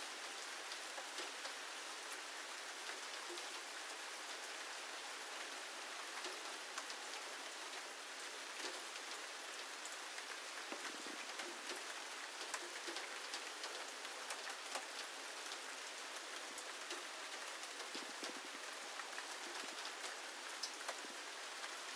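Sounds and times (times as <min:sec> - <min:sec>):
rain falling: 0:00.0 - 0:21.9
sharp ticks of raindrops: 0:00.0 - 0:21.9.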